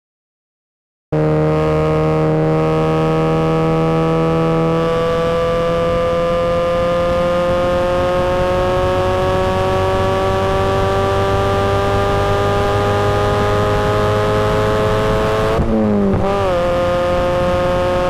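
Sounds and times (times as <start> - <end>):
car engine accelerating: 1.2 - 18.0.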